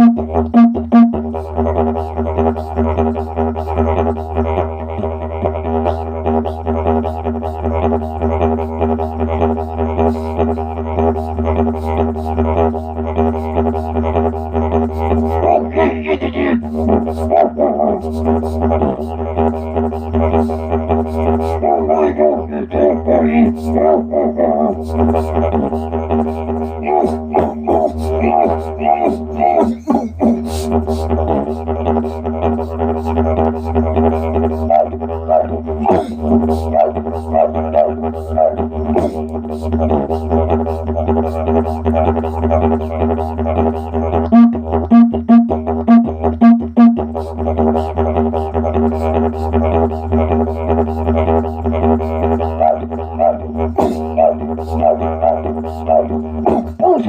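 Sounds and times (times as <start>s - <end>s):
didgeridoo drone: 0.0s - 57.0s.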